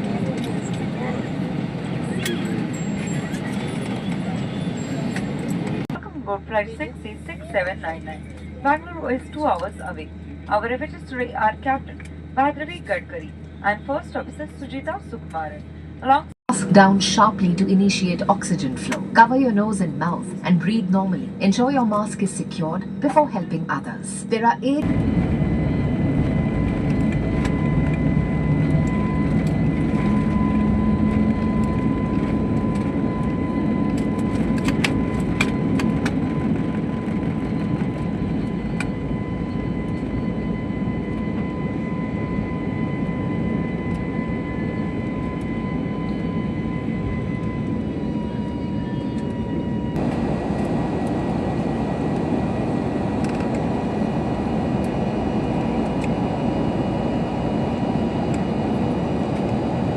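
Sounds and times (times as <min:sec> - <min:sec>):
jet engine roar in cabin: 0:00.0 - 0:59.9.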